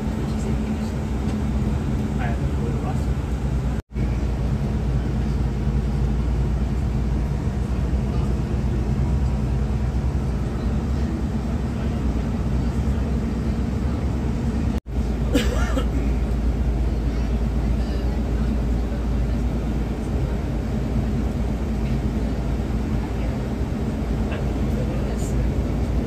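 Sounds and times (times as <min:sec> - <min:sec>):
road noise: 0:00.0 - 0:26.0
vehicle engine drone: 0:00.0 - 0:26.0.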